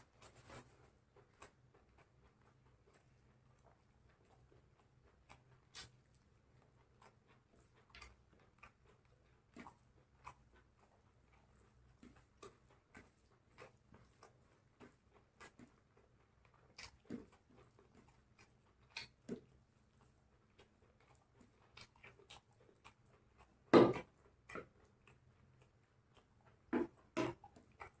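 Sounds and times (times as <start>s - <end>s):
chewing crunches: 0.2s - 28.0s.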